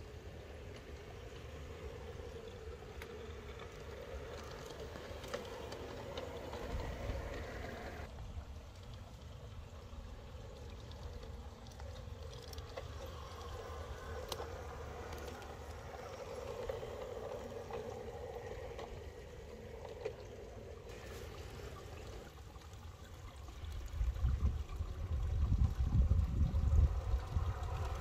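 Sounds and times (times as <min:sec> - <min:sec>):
model train motor humming: 0:00.0 - 0:24.1
low steady rumble: 0:00.0 - 0:28.0.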